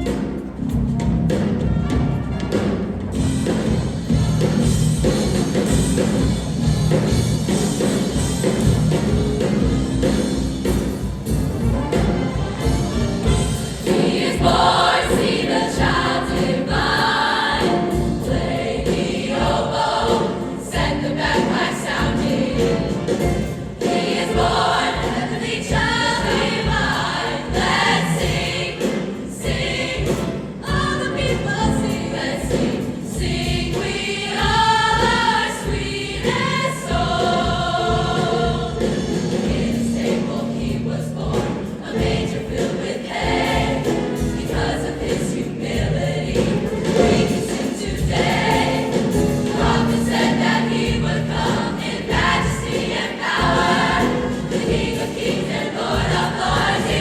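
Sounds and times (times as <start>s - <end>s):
choir singing: 9.5s - 57.0s.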